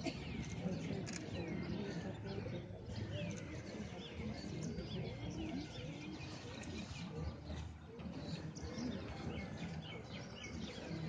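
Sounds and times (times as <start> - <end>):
low background murmur: 0.0 - 11.0
small birds chirping: 0.0 - 11.0.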